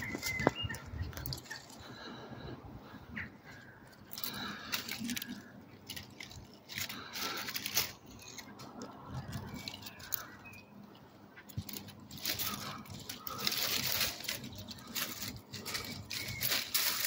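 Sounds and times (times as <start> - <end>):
dry leaves rustling and crackling: 0.0 - 2.2, 3.5 - 17.0.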